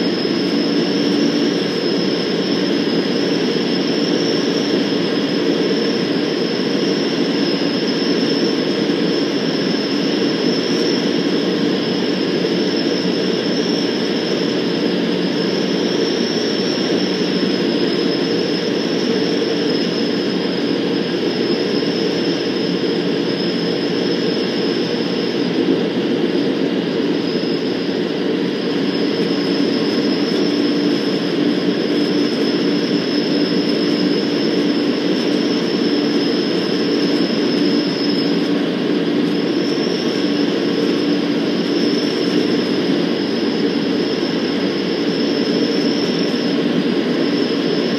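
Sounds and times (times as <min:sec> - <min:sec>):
propeller aircraft engine running: 0:00.0 - 0:47.9
thin high whine: 0:00.0 - 0:47.9.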